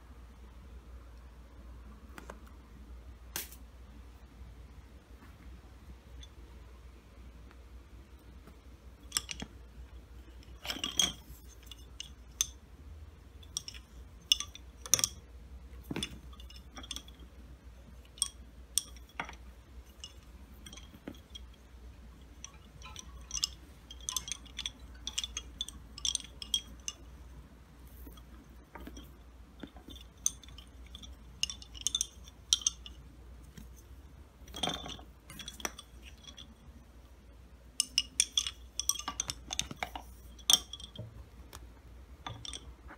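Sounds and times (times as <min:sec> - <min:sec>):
wooden bobbins clicking: 0:08.4 - 0:42.9.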